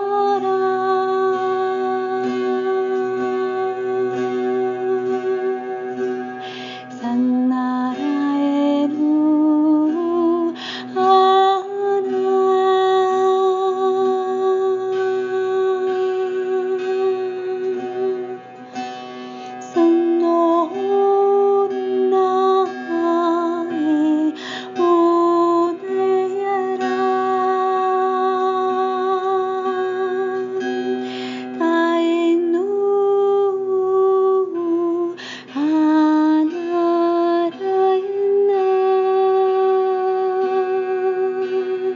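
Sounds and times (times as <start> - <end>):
woman singing wordless tones: 0.0 - 18.7, 19.5 - 41.9
plucked zither drone: 0.0 - 41.9.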